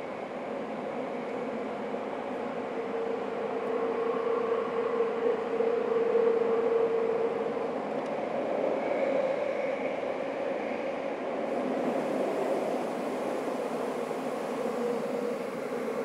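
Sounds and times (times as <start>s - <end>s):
subway train wheels rumbling: 0.0s - 16.0s.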